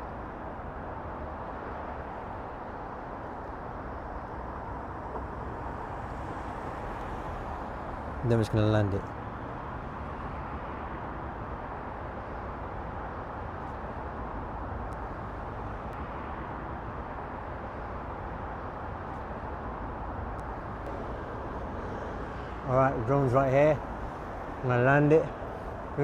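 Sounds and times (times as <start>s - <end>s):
distant road traffic hum: 0.0s - 26.0s.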